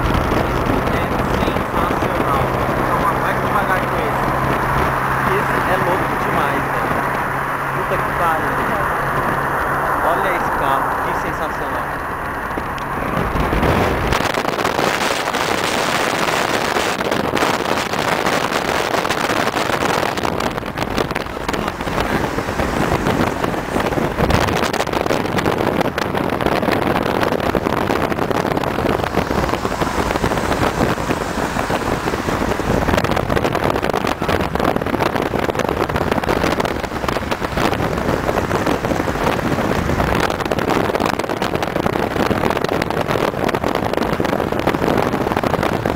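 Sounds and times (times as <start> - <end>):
car engines running: 0.0 - 45.9
road noise: 0.0 - 45.9
wind buffeting microphone: 0.0 - 45.9.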